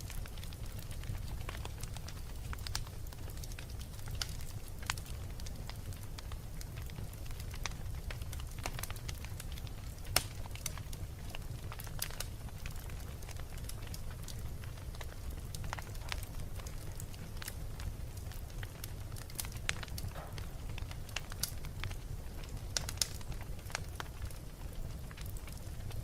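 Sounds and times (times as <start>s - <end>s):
fire crackling and popping: 0.0s - 26.0s
low rumble of fire flames: 0.0s - 26.0s.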